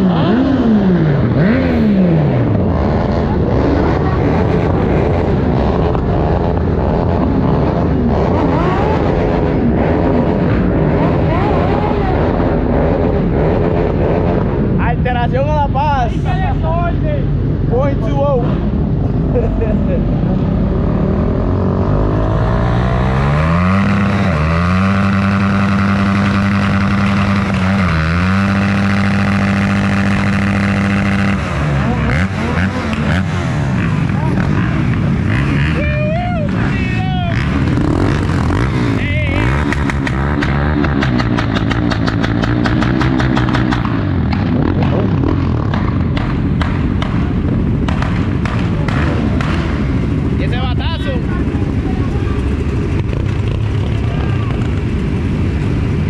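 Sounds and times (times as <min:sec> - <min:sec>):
motorcycle engines running: 0:00.0 - 0:56.0
motorcycle revving: 0:00.0 - 0:56.0.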